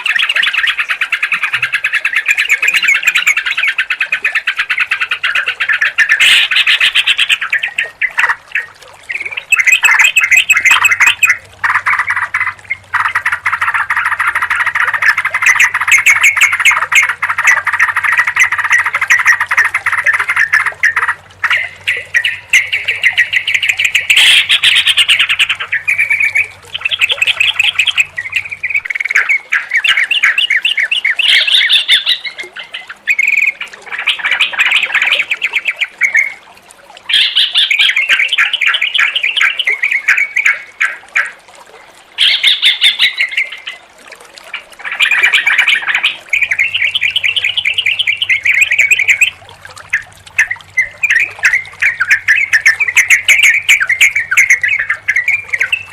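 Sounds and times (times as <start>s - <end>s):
bulbuls singing bubbling phrases: 0.0s - 55.9s.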